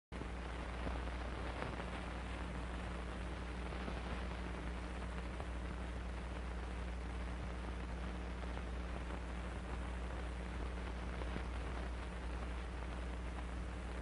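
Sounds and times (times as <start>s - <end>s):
faint crackles: 0.2s - 14.0s
film soundtrack hiss: 0.2s - 14.0s
low electrical hum: 0.2s - 14.0s.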